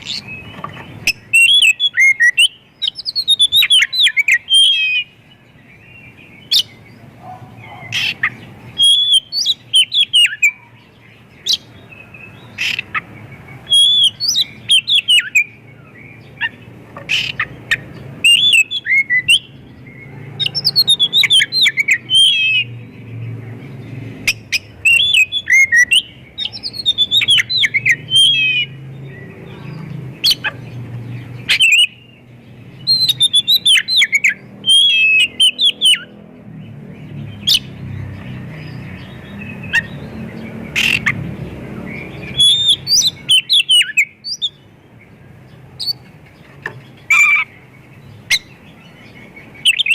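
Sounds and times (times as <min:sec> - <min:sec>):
bird singing varied phrases: 0:00.0 - 0:49.9.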